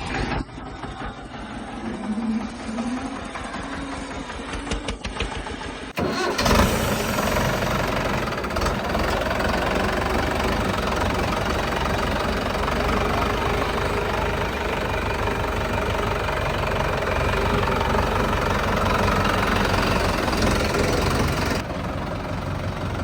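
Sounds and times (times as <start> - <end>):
tractor diesel engine running: 0.7 - 23.0.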